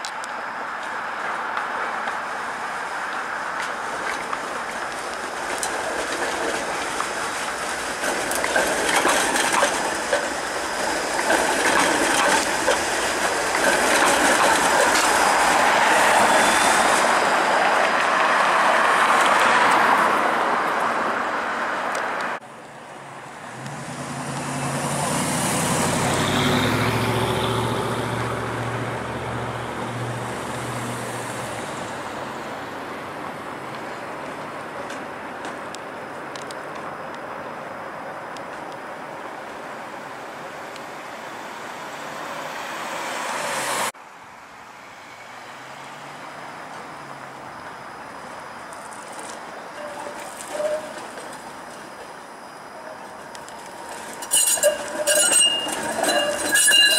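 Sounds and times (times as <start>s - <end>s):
streetcar low steady hum: 0.0s - 56.9s
streetcar wheels on rails: 0.0s - 56.9s.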